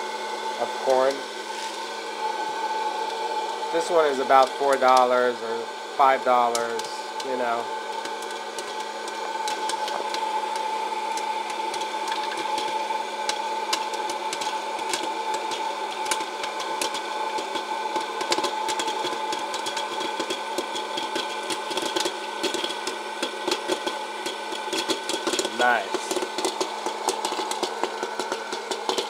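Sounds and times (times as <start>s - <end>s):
popcorn popper fan whine: 0.0s - 29.0s
popcorn kernels popping: 0.6s - 5.4s, 6.0s - 29.0s.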